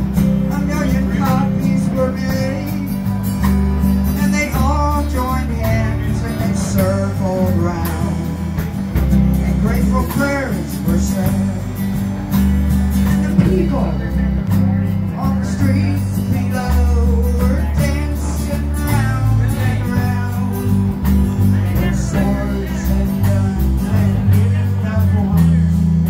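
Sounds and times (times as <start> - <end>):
bass notes: 0.0 - 26.0
drums: 0.0 - 26.0
strummed acoustic guitars: 0.0 - 26.0.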